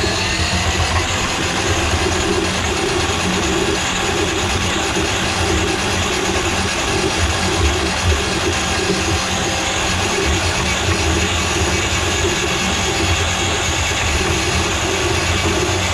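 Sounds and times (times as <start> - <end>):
drain-cleaning machine whirring: 0.0 - 15.9.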